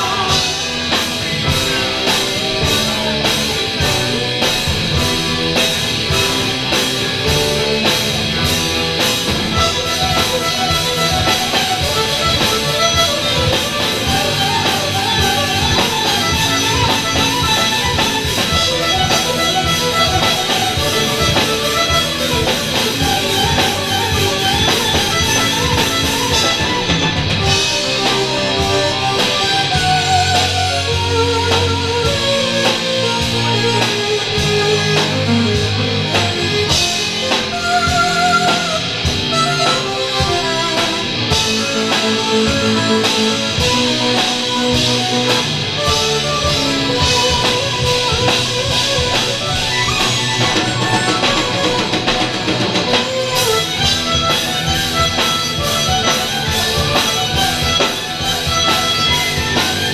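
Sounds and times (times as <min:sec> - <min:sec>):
live metal band playing: 0:00.0 - 0:59.9.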